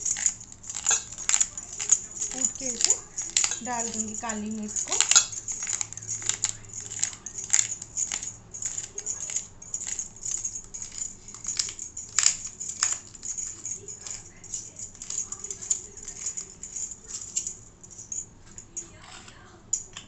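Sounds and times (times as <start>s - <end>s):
glass jar clinking against steel bowl: 0.0s - 20.0s.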